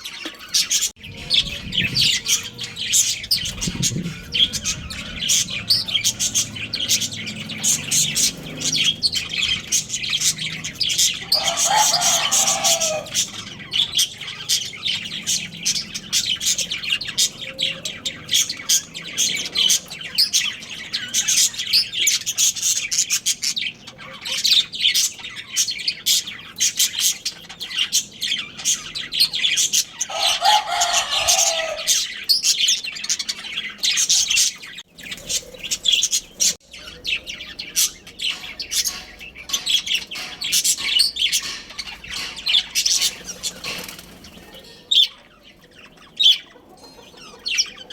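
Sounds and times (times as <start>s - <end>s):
budgerigars chattering: 0.0s - 47.9s.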